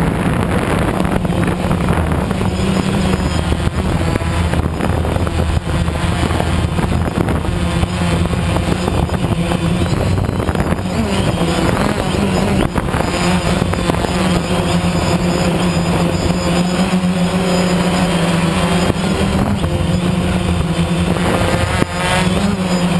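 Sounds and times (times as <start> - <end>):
engine running loud: 0.0 - 22.9.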